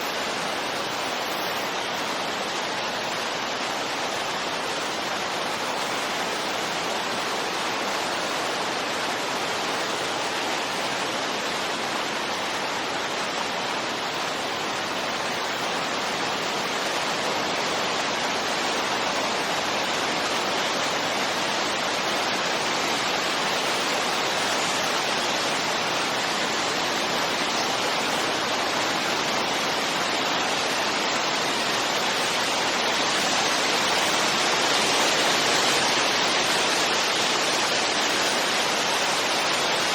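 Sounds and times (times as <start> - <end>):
steady rushing wind: 0.0 - 39.9.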